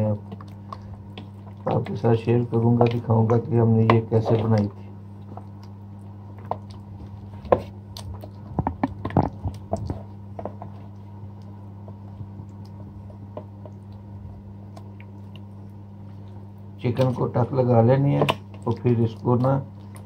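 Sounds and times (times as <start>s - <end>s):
hands squelching marinade: 0.0s - 20.0s
steady low hum: 0.0s - 20.0s.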